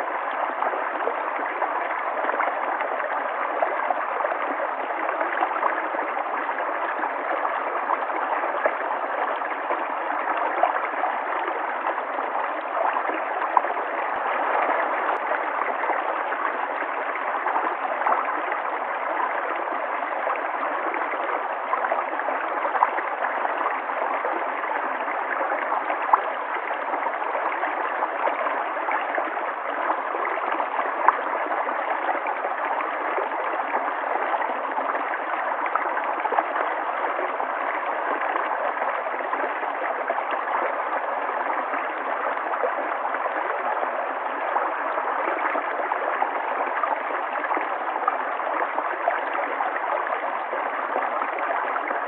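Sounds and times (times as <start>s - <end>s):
river water flowing and gurgling: 0.0s - 52.0s.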